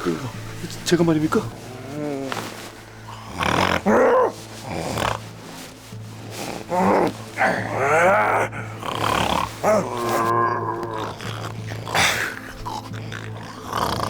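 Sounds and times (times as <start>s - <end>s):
background music: 0.0s - 14.0s
person snoring loudly: 1.7s - 5.6s, 6.2s - 14.0s.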